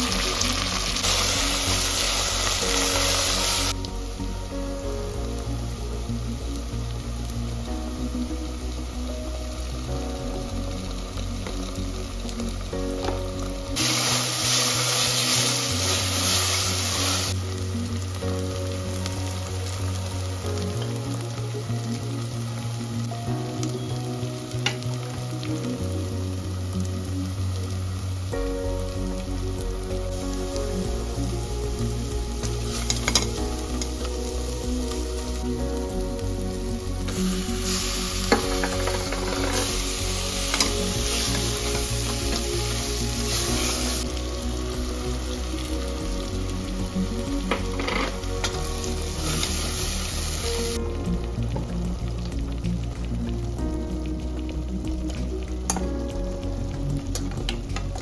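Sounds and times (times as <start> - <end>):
loud even hiss: 0.0 - 56.5
food sizzling in hot oil: 0.0 - 58.0
music with steady beat: 0.0 - 58.0.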